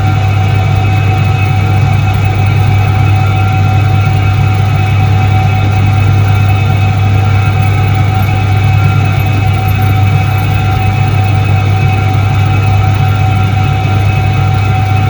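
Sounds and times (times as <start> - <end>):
washing machine motor humming: 0.0 - 15.0.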